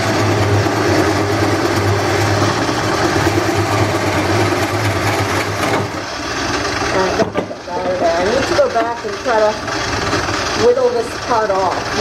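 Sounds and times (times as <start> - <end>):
lathe motor hum: 0.0 - 12.0
tool scraping spinning wood: 0.0 - 12.0.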